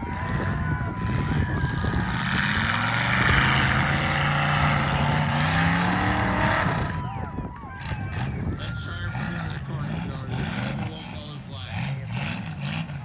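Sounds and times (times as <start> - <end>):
car engine revving hard: 0.0 - 7.0, 7.8 - 13.0
loud rough exhaust noise: 0.0 - 13.0.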